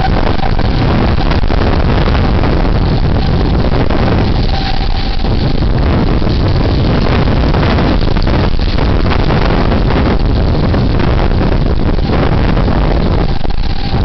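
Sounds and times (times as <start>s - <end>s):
storm wind gusting on microphone: 0.0s - 14.0s.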